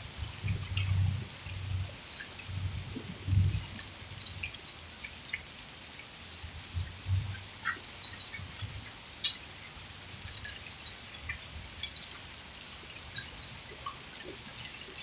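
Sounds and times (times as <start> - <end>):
rain and hail hissing: 0.0 - 15.0.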